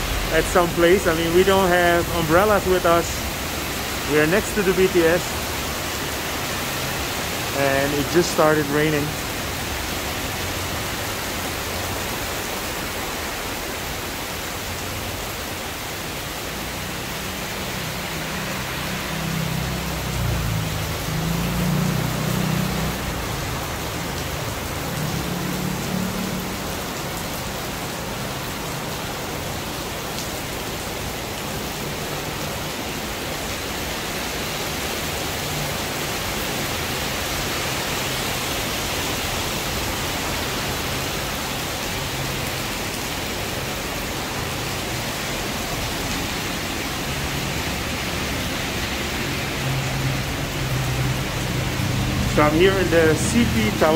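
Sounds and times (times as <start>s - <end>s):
rain falling steadily: 0.0s - 53.9s.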